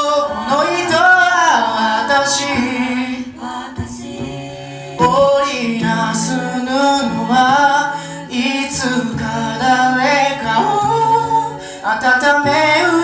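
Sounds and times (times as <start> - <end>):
a cappella group singing ballad: 0.0 - 13.0.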